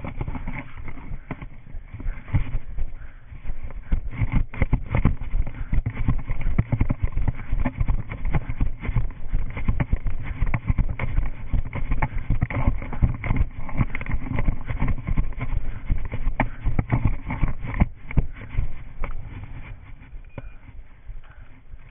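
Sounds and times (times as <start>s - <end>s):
running footsteps: 0.0s - 21.9s.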